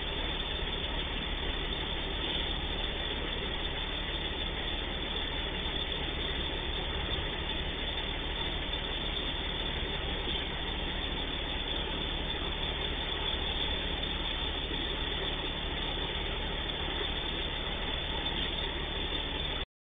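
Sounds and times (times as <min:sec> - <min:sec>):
diesel engine idling: 0:00.0 - 0:19.6.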